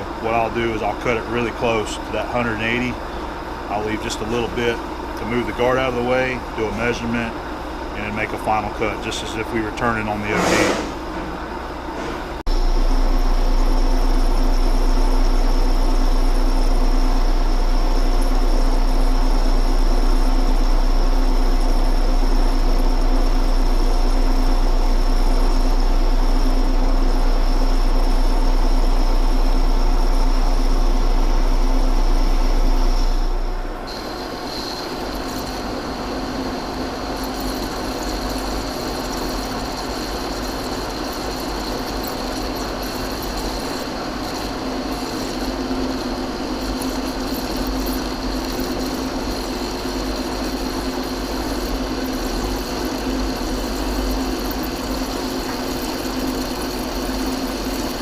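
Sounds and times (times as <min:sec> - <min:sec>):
metal lathe cutting steel: 0:00.0 - 0:12.4, 0:13.1 - 0:58.0.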